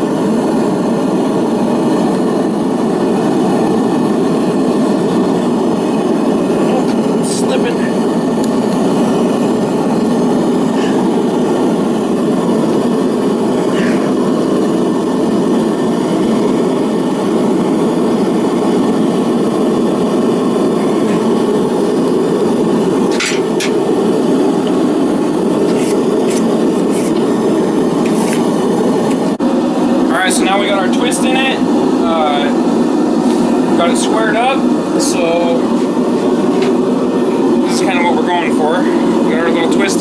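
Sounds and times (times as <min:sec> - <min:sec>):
forge rushing noise: 0:02.5 - 0:40.0.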